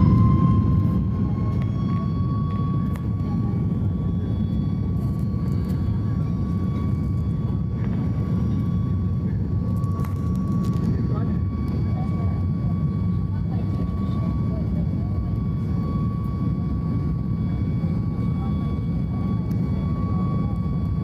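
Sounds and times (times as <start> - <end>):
airliner engine rumble and whine: 0.0 - 21.0.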